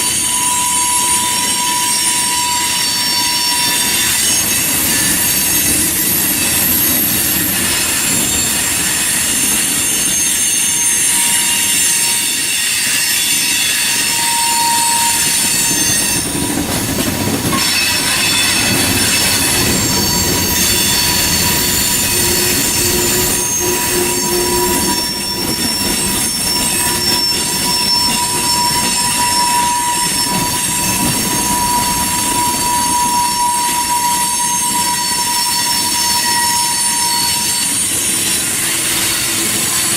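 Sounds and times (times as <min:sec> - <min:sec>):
low rumble of train wheels: 0:00.0 - 0:39.9
train wheel flanges squealing: 0:00.0 - 0:39.9.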